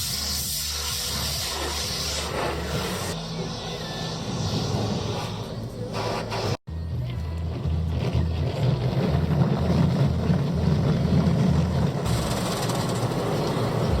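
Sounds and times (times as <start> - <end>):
wash of noise: 0.0 - 6.6, 7.6 - 14.0
car in motion rumble: 2.4 - 14.0.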